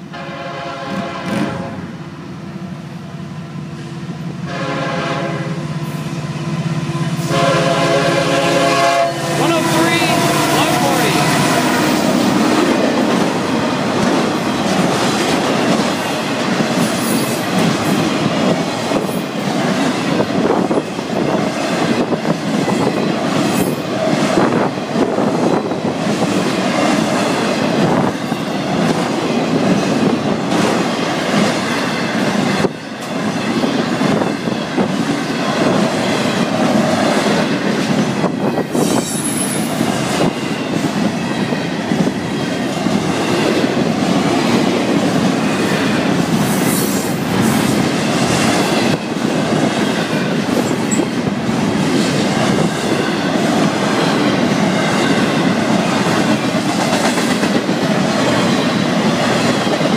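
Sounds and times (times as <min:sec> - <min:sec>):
freight train rolling: 0:00.0 - 0:59.9.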